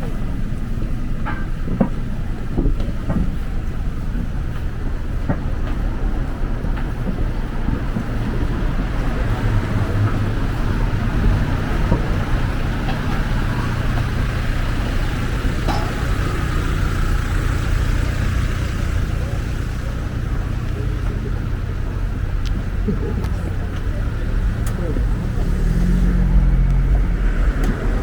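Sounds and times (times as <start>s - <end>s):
faint murmur of voices: 0.0s - 28.0s
road traffic rumble: 0.0s - 28.0s.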